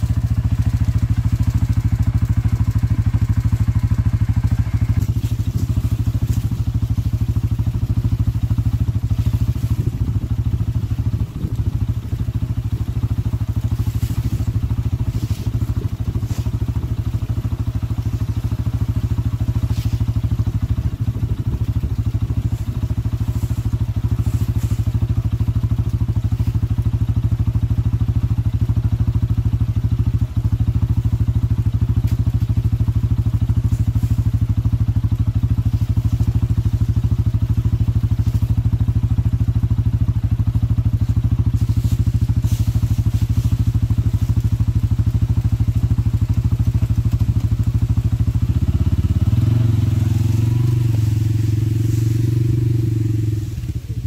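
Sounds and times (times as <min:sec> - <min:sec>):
atv engine idling: 0:00.0 - 0:54.0.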